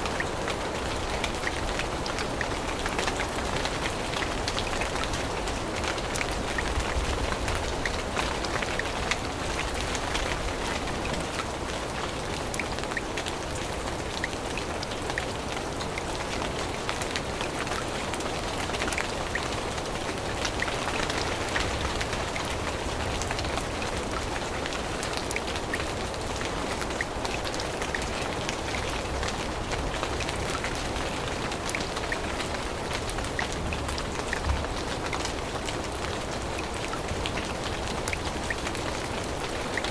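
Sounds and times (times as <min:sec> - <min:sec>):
raindrops ticking close by: 0:00.0 - 0:39.9
steady rain falling: 0:00.0 - 0:39.9.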